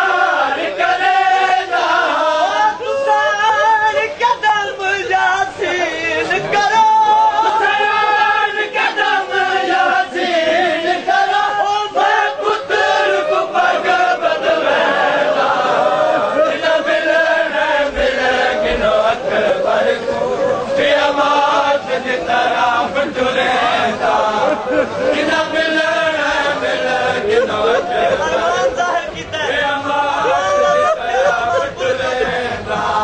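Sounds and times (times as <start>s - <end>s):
crowd of men chanting: 0.0s - 33.0s.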